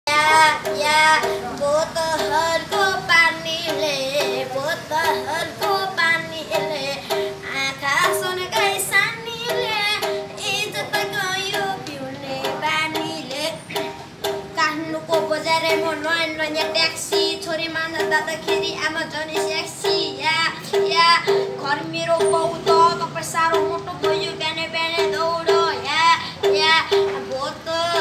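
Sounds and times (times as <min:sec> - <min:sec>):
boy singing folk melody: 0:00.1 - 0:28.0.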